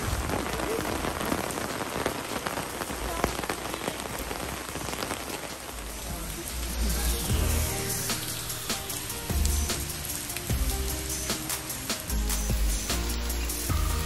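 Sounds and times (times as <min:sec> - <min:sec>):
raindrops tapping on umbrellas: 0:00.0 - 0:14.0
steady rain falling: 0:00.0 - 0:14.0.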